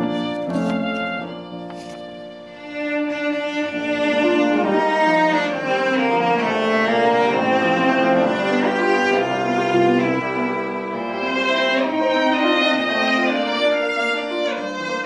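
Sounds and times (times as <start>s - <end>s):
classical piano trio: 0.0s - 15.0s.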